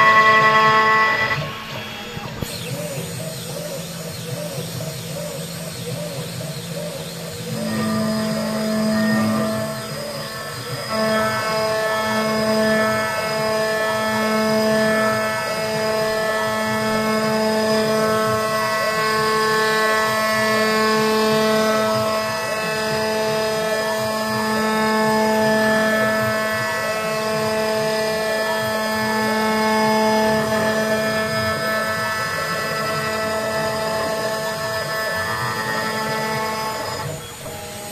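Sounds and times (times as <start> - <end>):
router spindle whine: 0.0 - 37.9
stepper motors whirring: 0.0 - 37.9.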